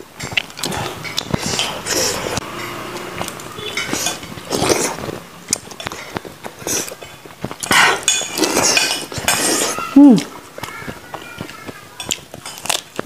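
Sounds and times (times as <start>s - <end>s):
wet chewing and sucking: 0.0s - 13.0s
mouth clicks and smacks: 0.2s - 13.0s.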